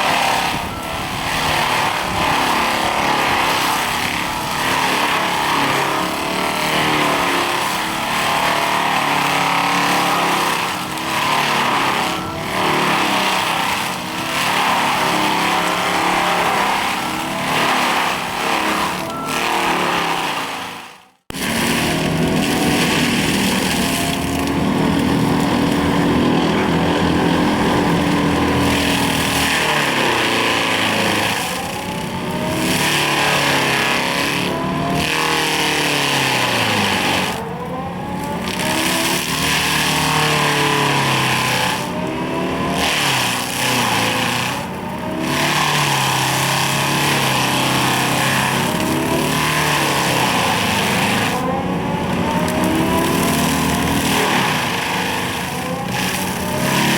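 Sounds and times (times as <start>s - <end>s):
excavator engine under load: 0.0s - 56.9s
hydraulic mulcher head running: 0.0s - 56.9s.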